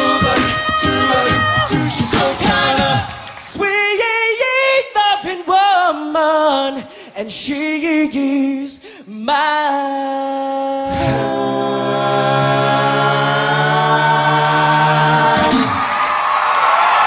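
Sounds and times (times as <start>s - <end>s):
a cappella group singing: 0.0s - 15.9s.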